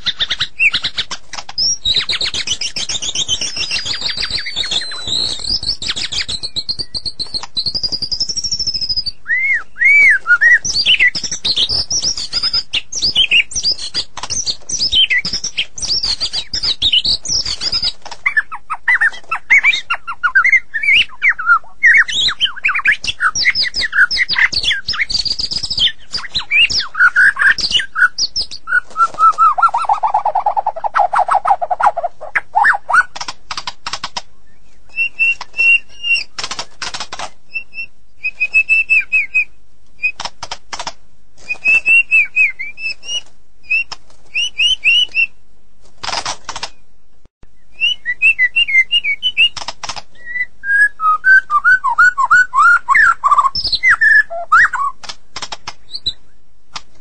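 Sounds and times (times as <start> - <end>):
bird singing: 0.0 - 33.3, 34.3 - 36.9, 37.5 - 40.2, 41.4 - 45.4, 46.5 - 55.0.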